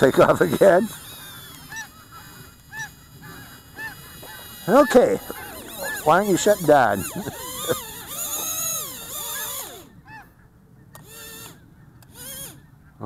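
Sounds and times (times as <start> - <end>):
geese honking: 0.0 - 10.5
drone motors whining: 0.0 - 12.8.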